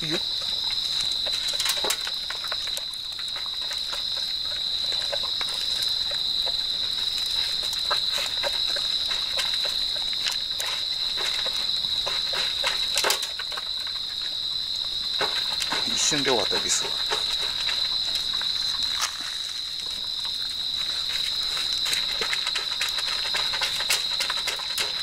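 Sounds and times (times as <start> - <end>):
dogs chewing: 0.0 - 25.0
insects trilling: 0.0 - 25.0.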